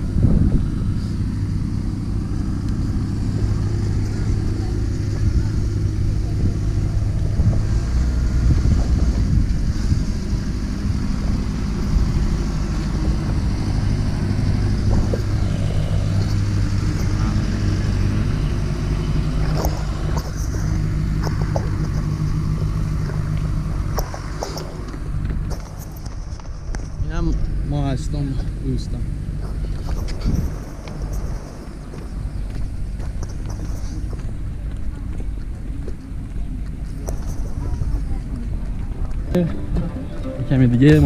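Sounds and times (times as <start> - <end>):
truck engine rumbling: 0.0 - 41.0.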